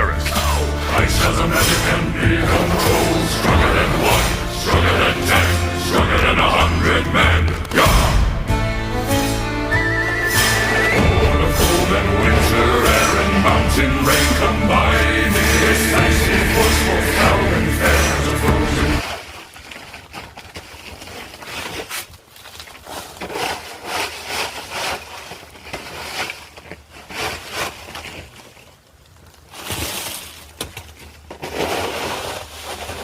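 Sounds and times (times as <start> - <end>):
icy snow crunching: 0.4 - 33.0.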